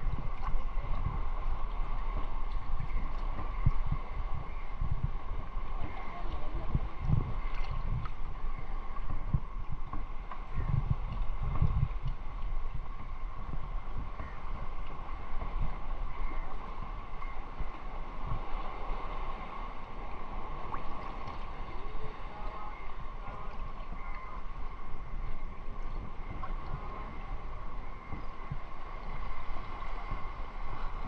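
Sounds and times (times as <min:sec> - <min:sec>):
water lapping and sloshing: 0:00.0 - 0:31.0
wind buffeting microphone: 0:00.0 - 0:31.0.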